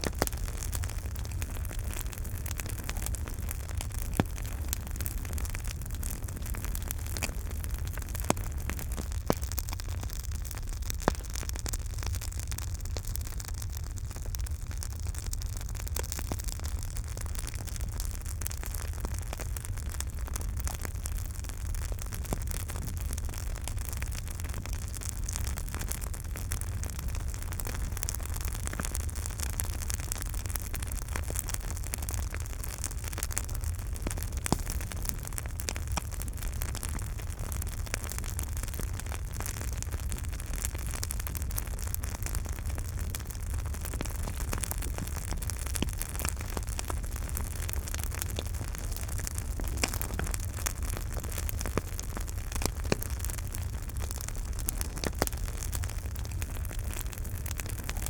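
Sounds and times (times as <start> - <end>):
flames rumbling: 0.0 - 58.0
wood crackling and popping: 0.0 - 58.0.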